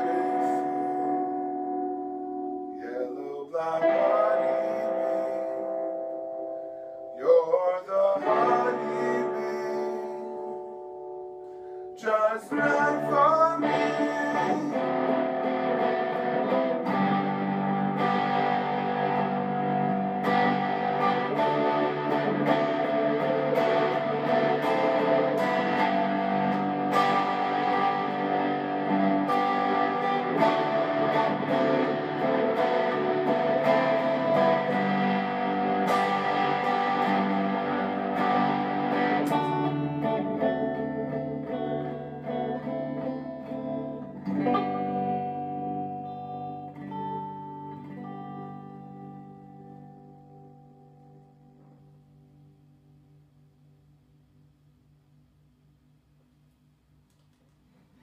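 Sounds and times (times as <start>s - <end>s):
electric guitar playing: 0.0s - 55.3s.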